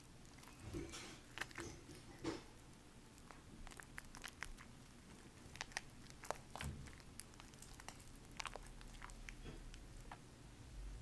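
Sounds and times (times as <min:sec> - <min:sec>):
wet crackles of soap lather: 0:00.0 - 0:10.2.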